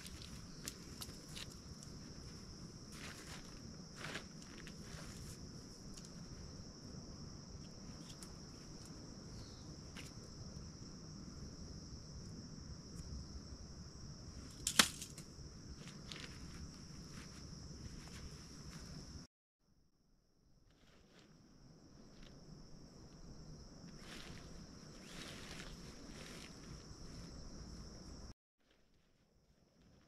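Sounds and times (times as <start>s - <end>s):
insects droning: 0.0s - 19.3s, 20.3s - 28.4s.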